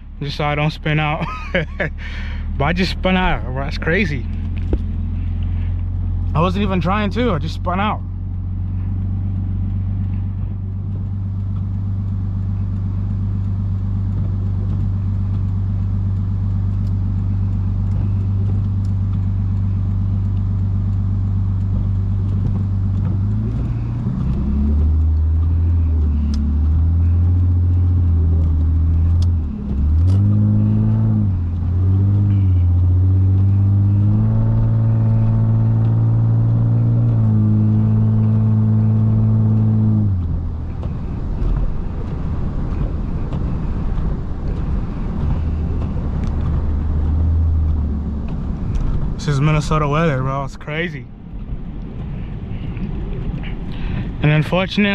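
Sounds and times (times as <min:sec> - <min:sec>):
car engine and exhaust: 0:00.0 - 0:54.9.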